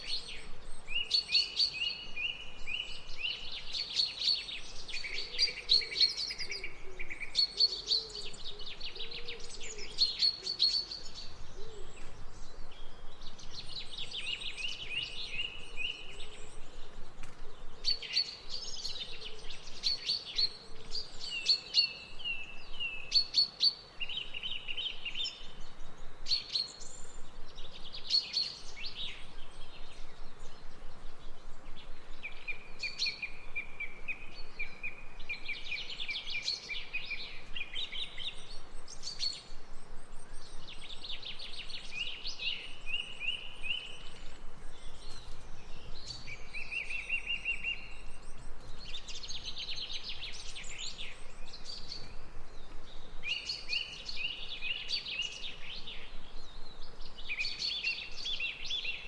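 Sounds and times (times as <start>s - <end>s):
light steady hiss: 0.0s - 59.0s
songbirds singing: 0.0s - 59.0s.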